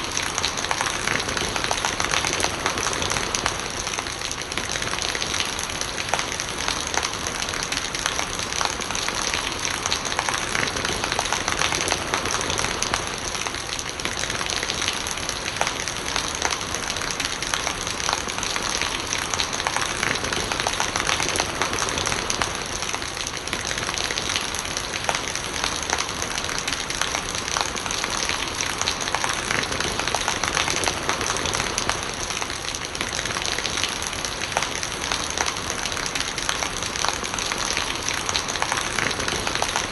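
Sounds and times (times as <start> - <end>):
rain drops pattering: 0.0 - 39.9
rainwater gurgling: 0.0 - 39.9.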